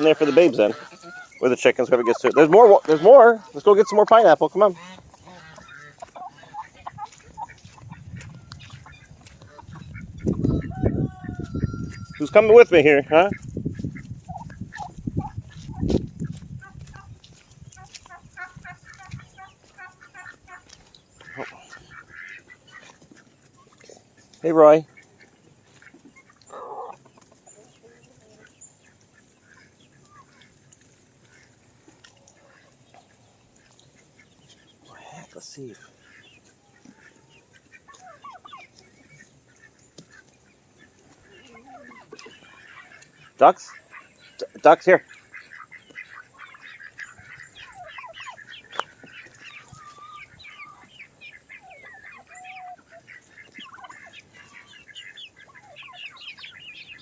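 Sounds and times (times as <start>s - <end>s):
faint poultry quacks and clucks: 0.0s - 57.0s.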